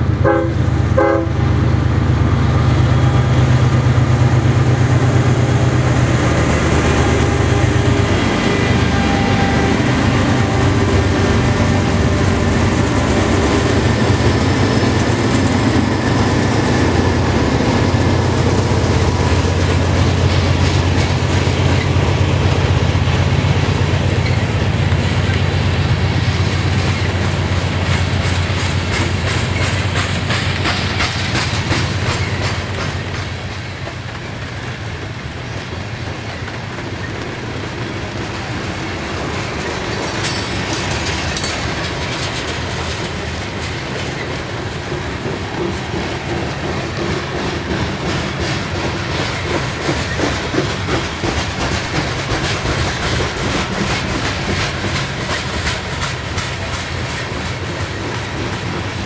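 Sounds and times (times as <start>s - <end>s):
diesel locomotive engines droning: 0.0s - 59.0s
train wheels clacking over rail joints: 3.5s - 59.0s.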